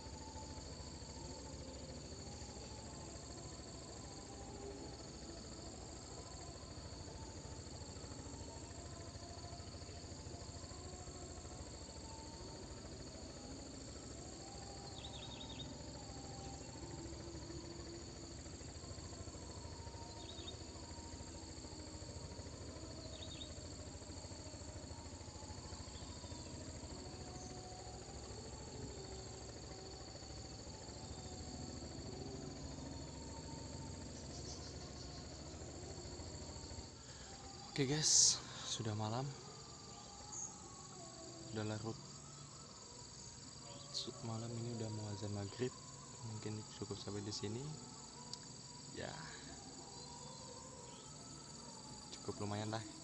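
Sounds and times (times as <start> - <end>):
crickets trilling: 0.0 - 53.0
insect chirps: 0.0 - 53.0.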